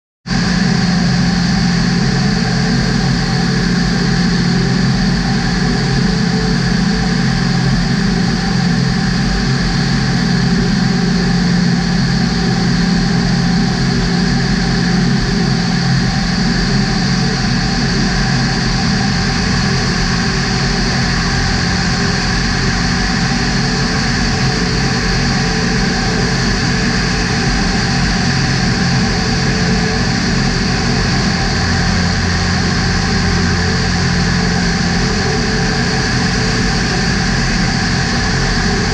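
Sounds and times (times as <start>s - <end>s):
aircraft propeller engine droning: 0.3s - 38.9s.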